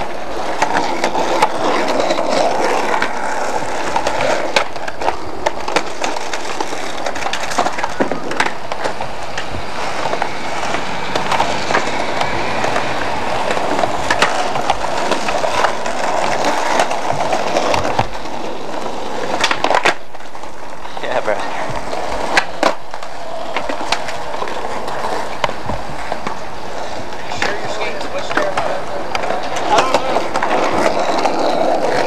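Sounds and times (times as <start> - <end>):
skateboard clacking on ground: 0.0 - 32.0
skateboard wheels rolling on concrete: 0.0 - 32.0.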